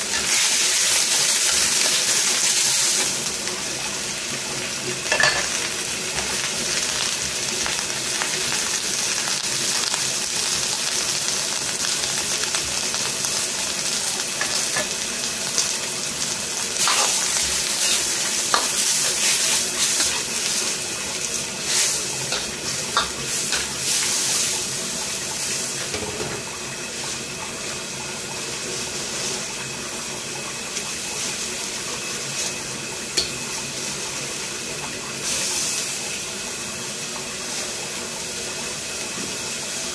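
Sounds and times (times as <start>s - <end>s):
vegetables sizzling in a wok: 0.0s - 39.9s.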